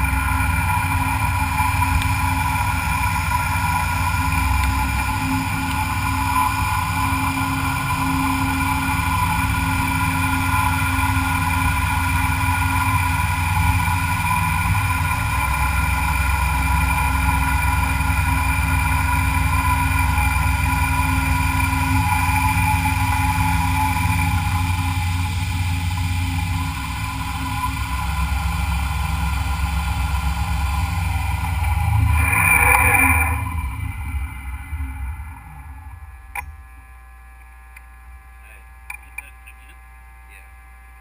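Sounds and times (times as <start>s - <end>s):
milling machine whine and hum: 0.0s - 41.0s.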